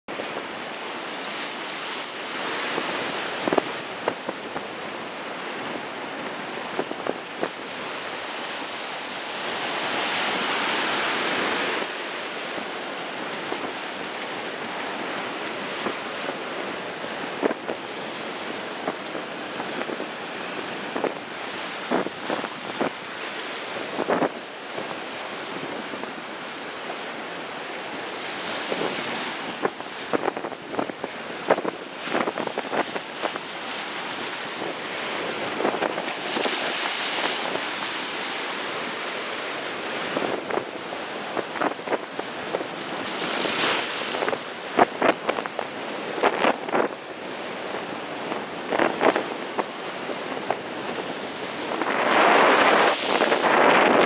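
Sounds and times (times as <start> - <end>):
surf splashing against pier: 0.1 - 54.0
wind buffeting microphone: 2.3 - 26.9, 28.2 - 38.9, 39.9 - 54.0.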